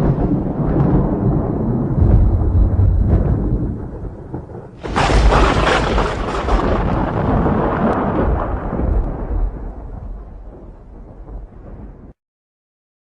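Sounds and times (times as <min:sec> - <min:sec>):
close thunderclap: 0:00.0 - 0:12.2
thunder rumbling: 0:00.0 - 0:12.2.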